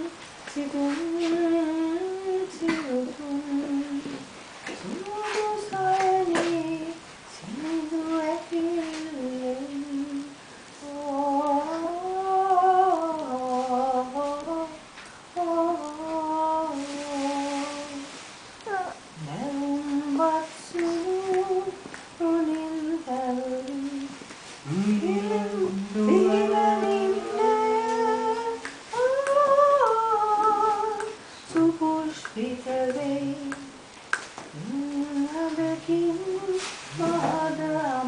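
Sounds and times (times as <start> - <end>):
woman singing unaccompanied: 0.0 - 38.0.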